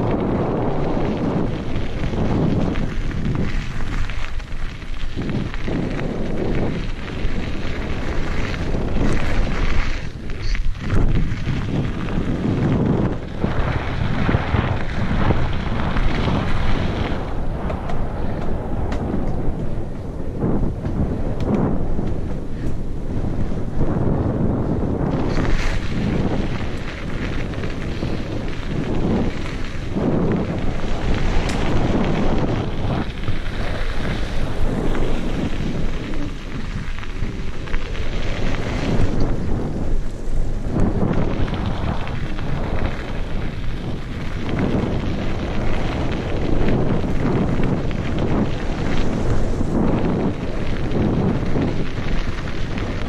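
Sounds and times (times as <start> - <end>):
tyres rumbling over gravel: 0.0 - 53.0
wind buffeting microphone: 0.0 - 53.0.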